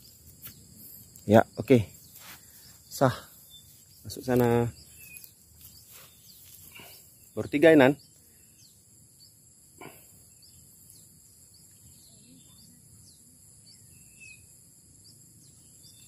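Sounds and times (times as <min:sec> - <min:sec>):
falling bird chirps: 0:00.0 - 0:14.5.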